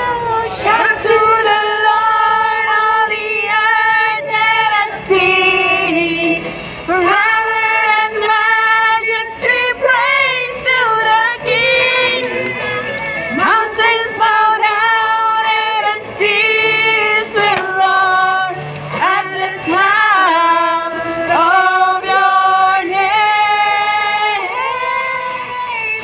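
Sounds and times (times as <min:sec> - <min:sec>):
women singing worship song amplified: 0:00.0 - 0:12.5, 0:13.3 - 0:26.0.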